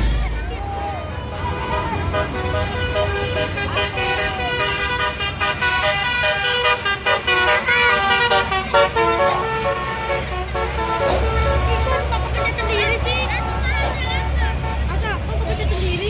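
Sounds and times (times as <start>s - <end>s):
traffic rumble: 0.0s - 16.0s
musical bus horn melody: 1.1s - 15.1s.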